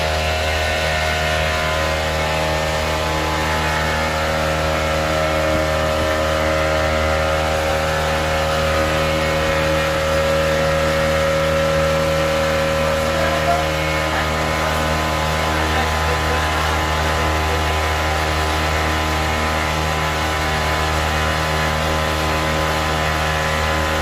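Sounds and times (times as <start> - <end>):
outboard motor droning: 0.0 - 24.0.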